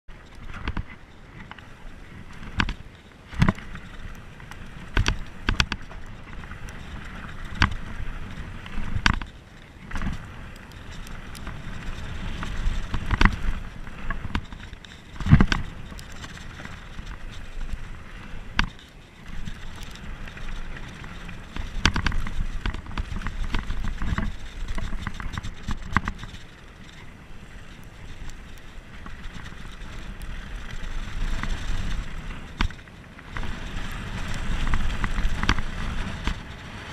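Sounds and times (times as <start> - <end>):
bike knocking and rattling: 0.1 - 36.9
tyre and wind noise: 0.1 - 36.9.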